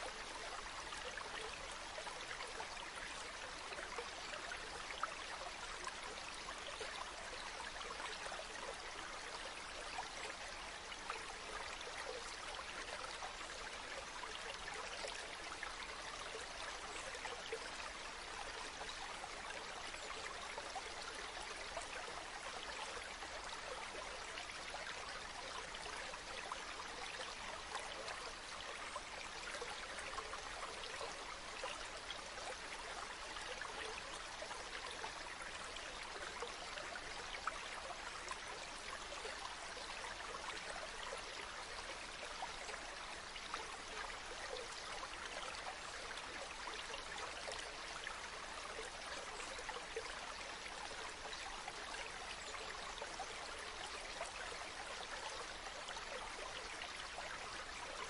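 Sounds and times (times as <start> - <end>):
river water flowing over stones: 0.0 - 58.0.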